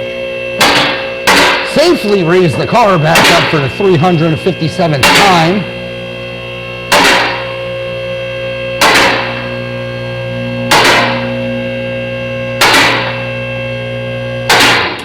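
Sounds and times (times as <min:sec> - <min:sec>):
hydraulic pump motor humming: 0:00.0 - 0:15.0.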